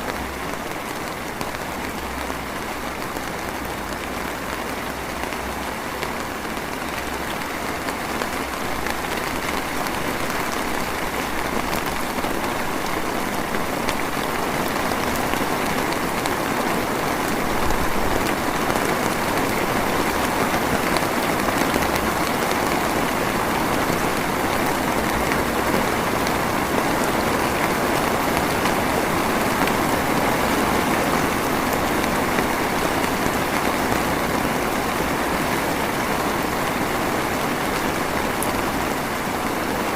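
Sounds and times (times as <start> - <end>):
rain drizzle: 0.0 - 39.9.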